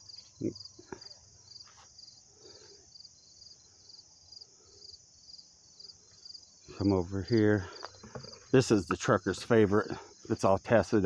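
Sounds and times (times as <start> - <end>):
high insect hiss: 0.0 - 11.0
insects chirping rhythmically: 0.0 - 11.0.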